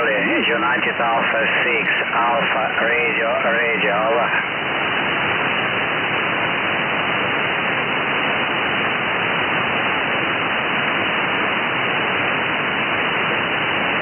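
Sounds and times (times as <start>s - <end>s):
radio receiver hiss: 0.0s - 14.0s.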